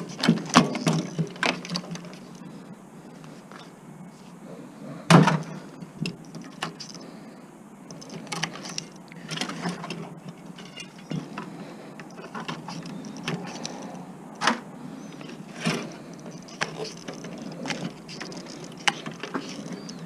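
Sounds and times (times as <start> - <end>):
parts clicking and rattling: 0.0 - 2.6, 5.1 - 7.2, 7.8 - 20.0.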